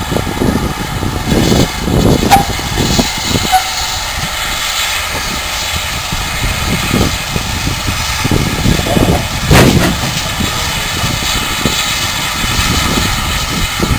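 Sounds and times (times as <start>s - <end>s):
wind buffeting microphone: 0.0s - 13.9s
steady hiss: 0.1s - 13.9s.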